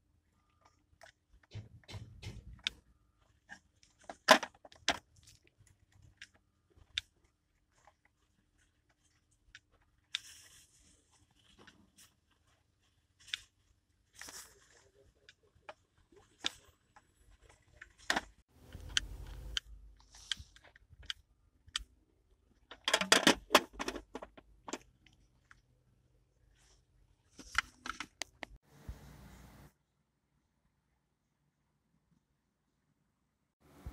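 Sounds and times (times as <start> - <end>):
hands handling plastic parts: 0.2 - 25.7, 26.3 - 28.6.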